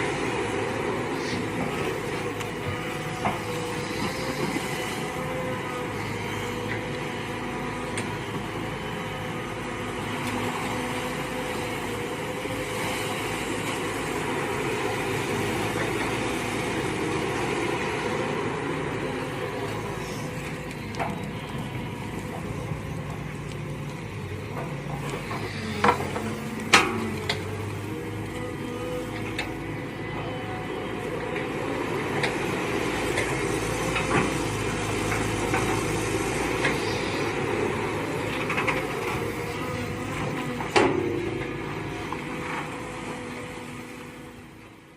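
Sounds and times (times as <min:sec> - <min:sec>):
mini excavator engine running: 0:00.0 - 0:44.9.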